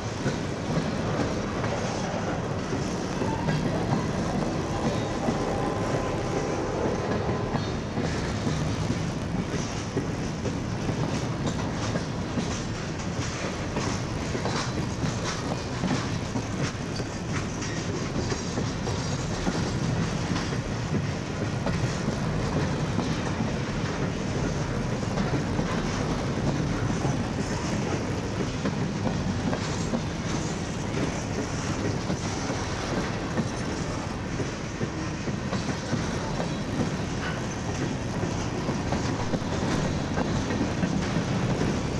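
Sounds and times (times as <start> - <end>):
train cars rumbling past: 0.0 - 41.9
wheels clicking over rail joints: 0.0 - 41.9.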